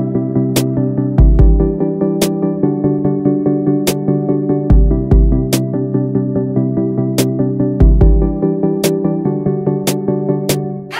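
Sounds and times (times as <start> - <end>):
electronic music: 0.0 - 10.9.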